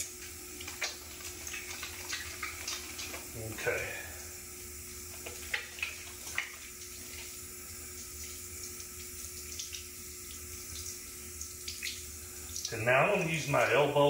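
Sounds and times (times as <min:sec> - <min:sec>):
water splashes: 0:00.0 - 0:04.4, 0:05.0 - 0:13.8
faucet running into sink: 0:00.0 - 0:13.8.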